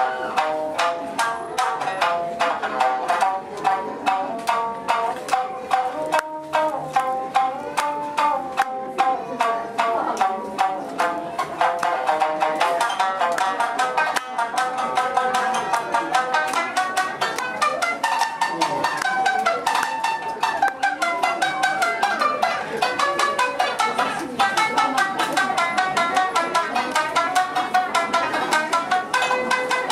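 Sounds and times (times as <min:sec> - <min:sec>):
shamisen plucked notes: 0:00.0 - 0:29.9.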